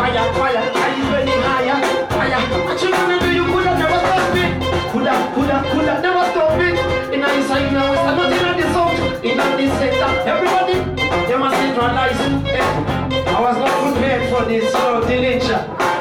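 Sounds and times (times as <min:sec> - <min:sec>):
live reggae band: 0:00.0 - 0:16.0
person singing into microphone: 0:00.0 - 0:16.0.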